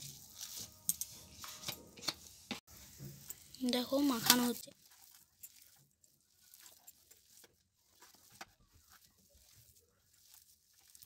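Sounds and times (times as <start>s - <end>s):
hands mixing flour in steel plate: 0.0s - 11.0s.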